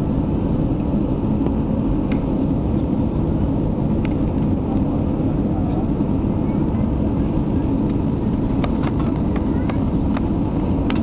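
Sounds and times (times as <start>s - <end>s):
airflow and jet engines rumbling: 0.0s - 11.0s.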